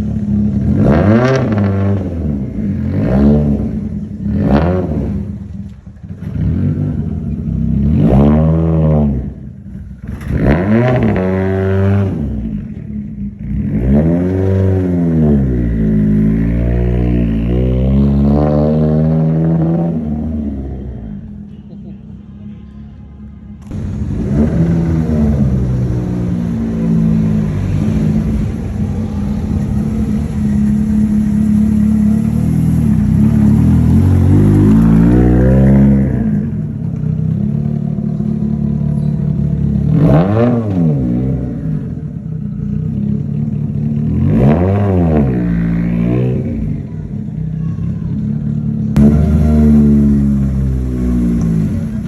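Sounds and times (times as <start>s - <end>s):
car engine revving: 0.0s - 21.3s, 23.6s - 47.2s, 48.4s - 52.0s.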